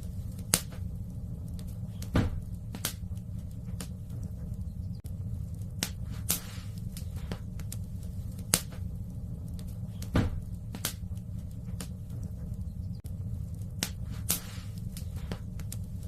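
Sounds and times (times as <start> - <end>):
fire crackling pops: 0.0 - 16.0
wood fire rumbling: 0.0 - 16.0.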